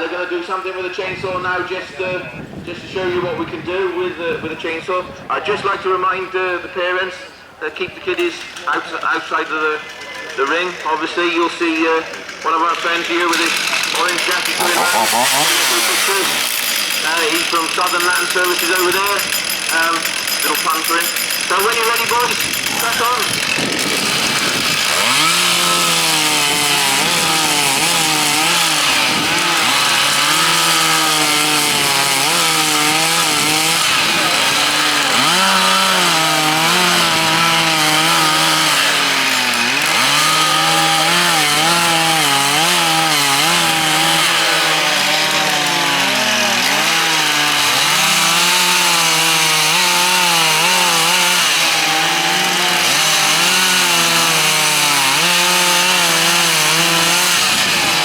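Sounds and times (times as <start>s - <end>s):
chainsaws cutting wood: 8.1s - 58.0s.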